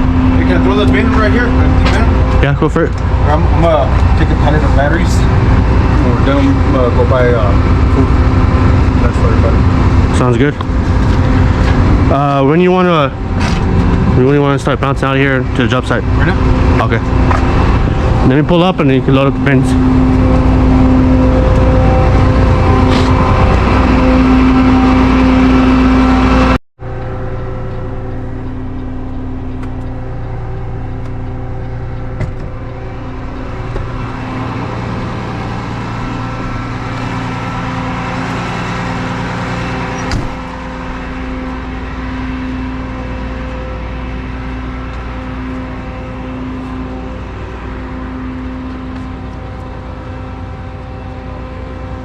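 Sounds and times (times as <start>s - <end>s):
truck engine running: 0.0s - 52.0s.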